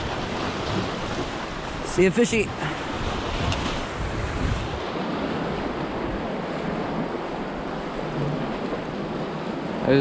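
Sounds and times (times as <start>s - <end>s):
ocean surf washing against rocks: 0.0s - 10.0s
wind blowing on microphone: 0.0s - 10.0s.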